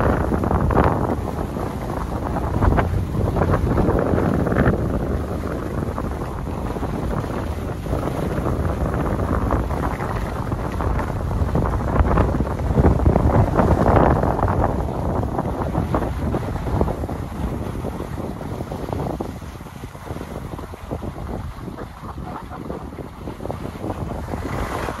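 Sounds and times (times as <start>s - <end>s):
wind buffeting microphone: 0.0s - 25.0s
skis scraping on snow: 0.3s - 25.0s.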